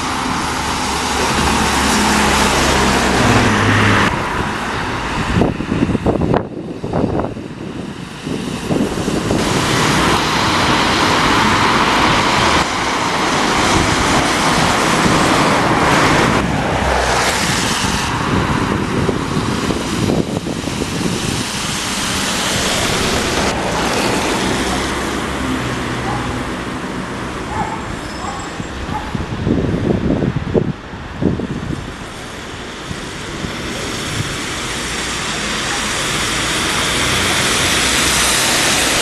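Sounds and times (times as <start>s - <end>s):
vehicles passing tyre hiss: 0.0s - 39.0s
wind buffeting microphone: 0.0s - 39.0s.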